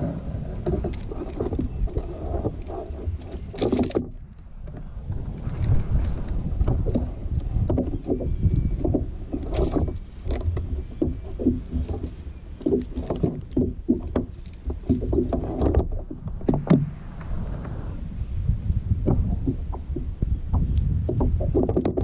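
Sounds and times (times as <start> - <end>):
wind and water rumble: 0.0 - 22.0.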